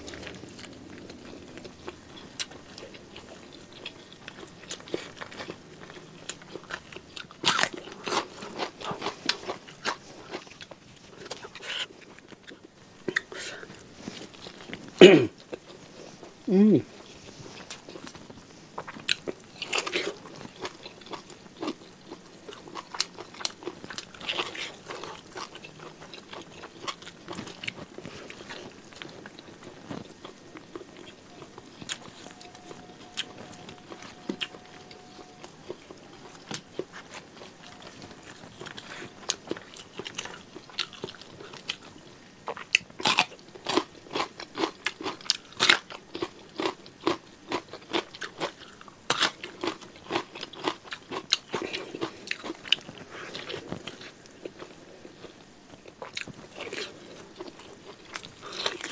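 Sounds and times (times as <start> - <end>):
chewing and smacking: 0.0 - 16.4, 17.0 - 58.9.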